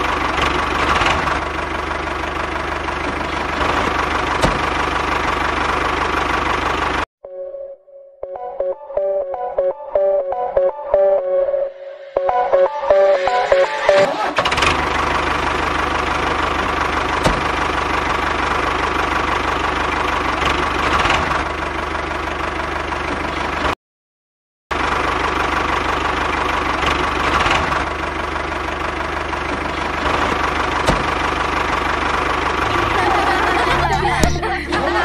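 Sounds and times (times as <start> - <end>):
tractor engine idling: 0.0 - 7.1, 12.2 - 23.8, 24.7 - 35.0.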